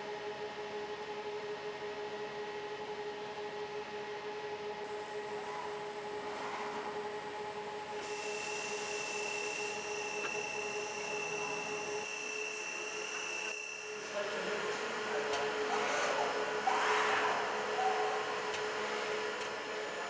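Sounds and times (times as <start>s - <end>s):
busy mechanical noise: 0.0s - 20.0s
machine hum with high whine: 0.0s - 20.0s.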